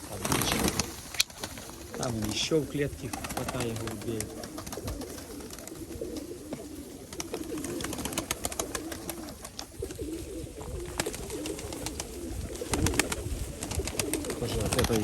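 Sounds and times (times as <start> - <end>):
birds clicking and tapping: 0.0 - 15.0
pigeons cooing: 0.0 - 15.0.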